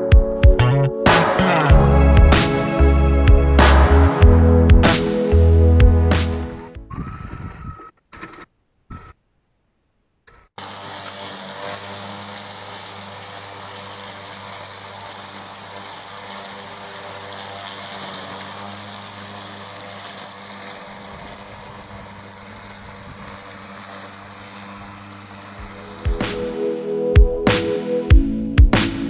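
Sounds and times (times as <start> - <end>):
electric mower whir and hum: 0.0 - 8.4, 10.6 - 29.0.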